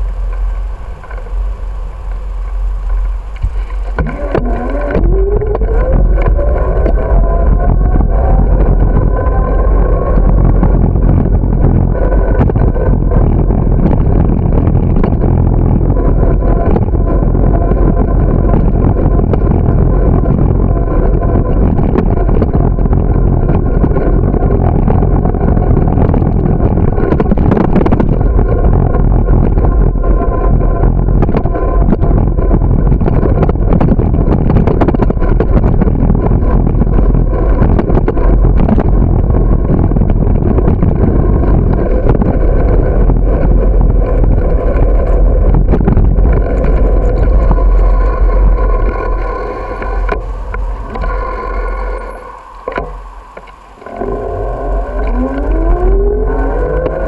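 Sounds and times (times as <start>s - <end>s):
bicycle road noise: 0.0s - 57.0s
rising whine: 0.0s - 57.0s
wind rumble on microphone: 0.0s - 57.0s.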